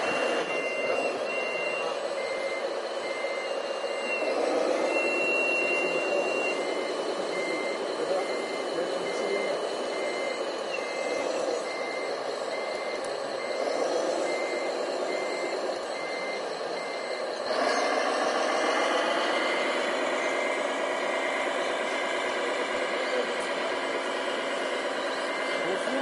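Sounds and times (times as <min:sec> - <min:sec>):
model truck drive noise: 0:00.0 - 0:26.0
reversing beeper: 0:00.0 - 0:26.0.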